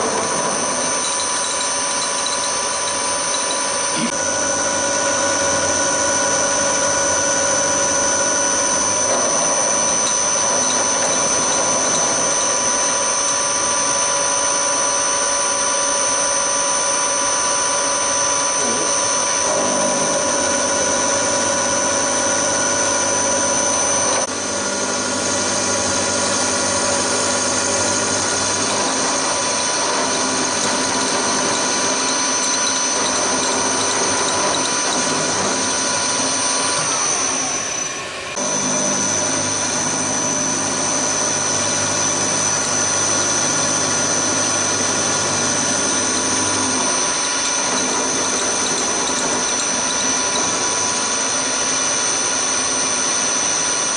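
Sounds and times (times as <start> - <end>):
milling machine whining: 0.0 - 53.9.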